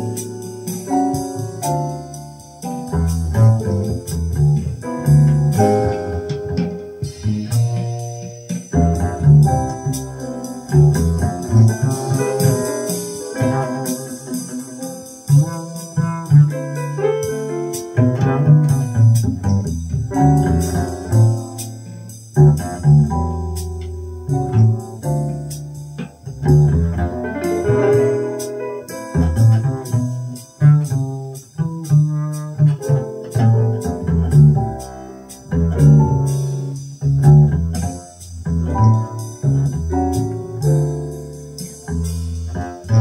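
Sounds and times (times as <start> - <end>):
jazz recording: 0.0 - 43.0
plucked double bass: 0.0 - 43.0.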